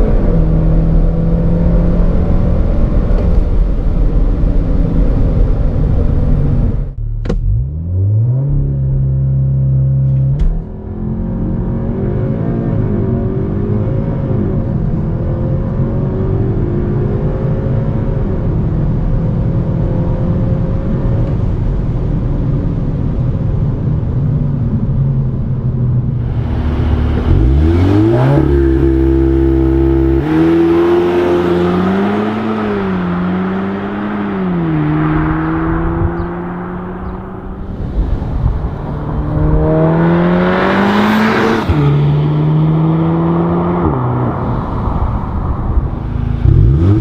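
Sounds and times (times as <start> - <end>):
car engine accelerating: 0.0 - 24.2, 24.8 - 47.0
road noise: 0.0 - 47.0.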